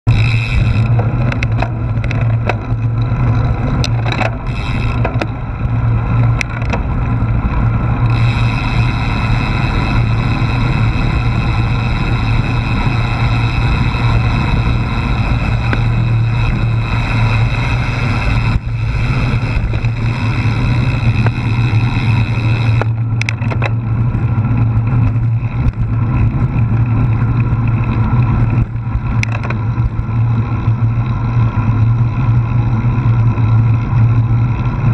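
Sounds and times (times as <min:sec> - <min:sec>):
sharp clicks and rattles: 0:00.0 - 0:34.9
tyre and road noise: 0:00.0 - 0:34.9
wind buffeting microphone: 0:00.1 - 0:30.2.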